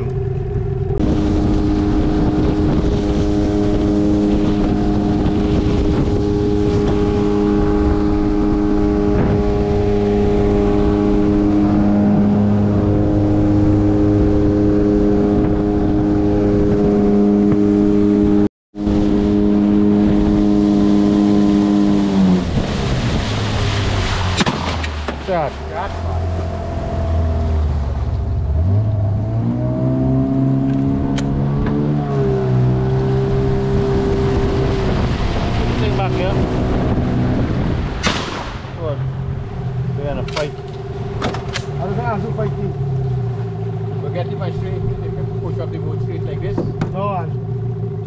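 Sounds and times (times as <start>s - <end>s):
rushing water: 0.0s - 16.6s, 18.8s - 47.6s
outboard motor running: 0.0s - 48.0s
wind: 0.0s - 48.0s.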